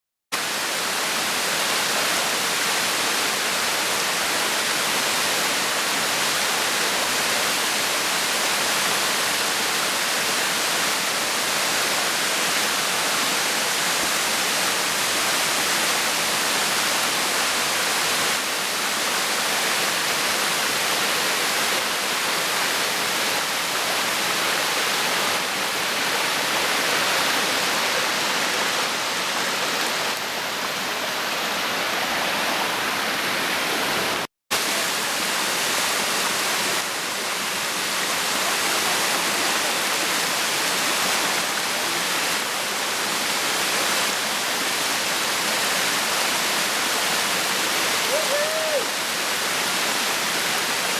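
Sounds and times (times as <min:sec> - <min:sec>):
waterfall rushing: 0:00.4 - 0:50.9.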